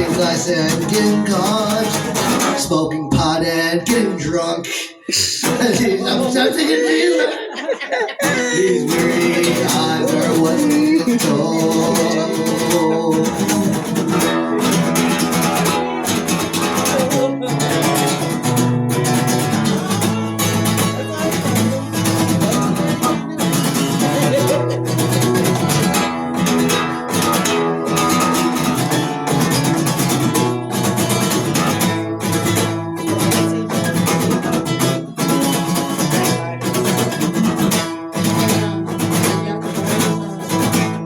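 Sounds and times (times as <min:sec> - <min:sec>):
guitar strumming chords: 0:00.0 - 0:04.4, 0:05.4 - 0:07.4, 0:08.2 - 0:41.0.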